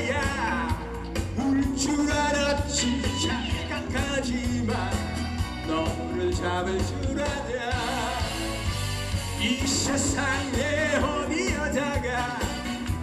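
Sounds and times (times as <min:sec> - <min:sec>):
man singing into microphone: 0:00.0 - 0:08.5, 0:09.4 - 0:12.9
backing music with bass beat: 0:00.0 - 0:13.0.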